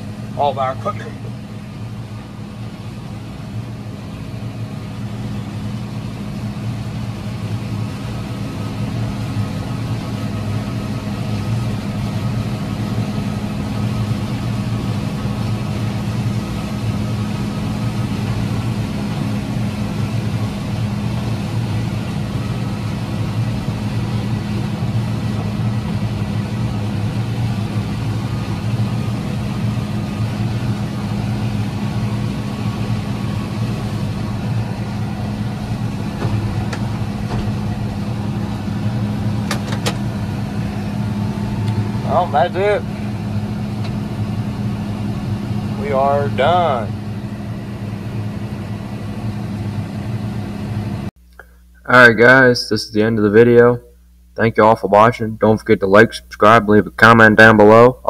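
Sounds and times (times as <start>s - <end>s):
tractor engine running: 0.0s - 52.4s.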